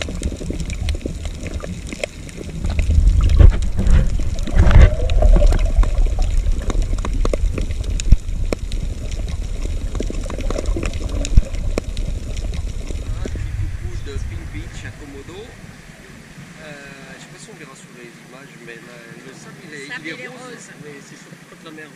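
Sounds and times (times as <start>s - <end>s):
muffled underwater sloshing: 0.0s - 19.7s
water gurgle: 0.0s - 21.9s.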